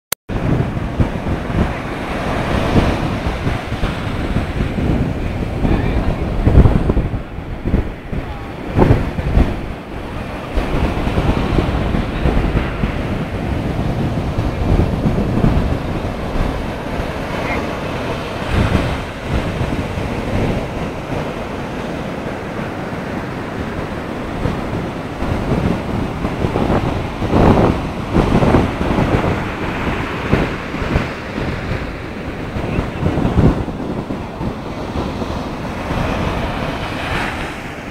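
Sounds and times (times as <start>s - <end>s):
surf breaking on beach: 0.3s - 37.9s
wind rumbling on microphone: 0.3s - 37.9s.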